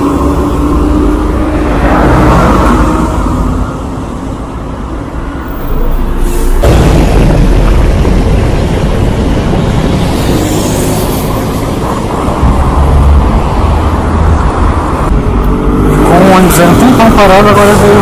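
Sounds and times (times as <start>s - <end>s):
bus diesel engines rumbling: 0.0s - 18.0s
heavy street traffic: 0.0s - 18.0s.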